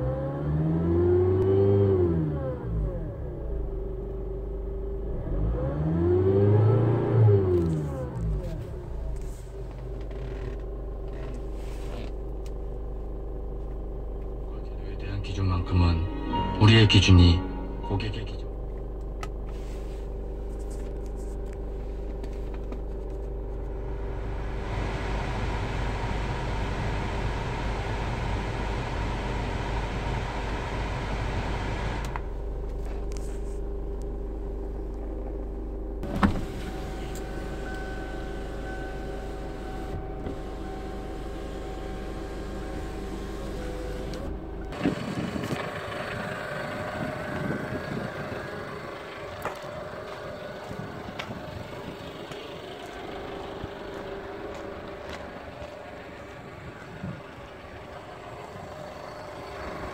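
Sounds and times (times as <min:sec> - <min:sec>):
car engine idling: 0:06.9 - 0:59.9.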